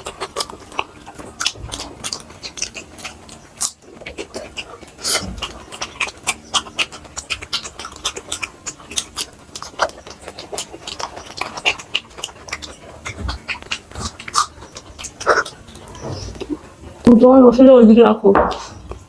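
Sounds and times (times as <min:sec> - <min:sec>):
chewing and lip-smacking: 0:00.0 - 0:17.1.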